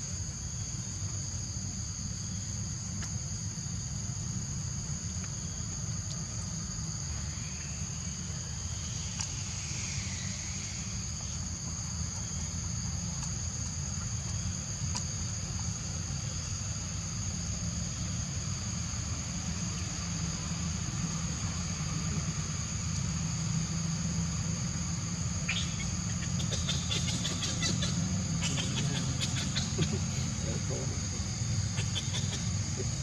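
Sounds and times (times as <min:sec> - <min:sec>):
crickets chirping: 0:00.0 - 0:33.0
low steady rumble: 0:00.0 - 0:33.0.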